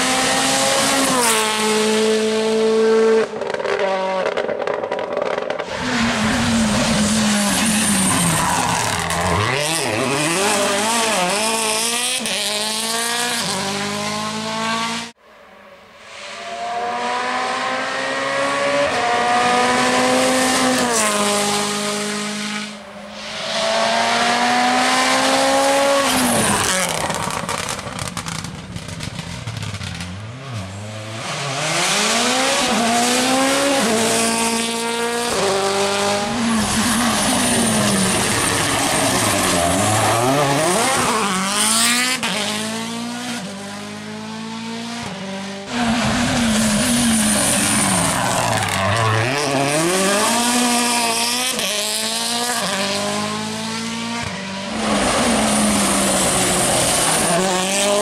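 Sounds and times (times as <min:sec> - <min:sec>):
rally car engine revving: 0:00.0 - 0:15.2, 0:16.4 - 0:58.0.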